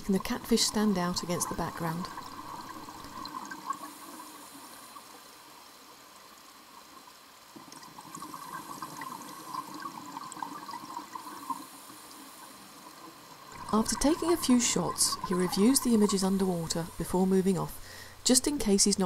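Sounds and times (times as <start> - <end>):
underwater bubbles gurgling: 0.0 - 18.0.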